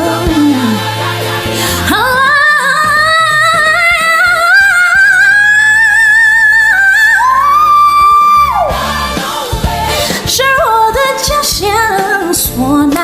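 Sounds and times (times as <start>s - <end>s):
backing music: 0.0s - 13.0s.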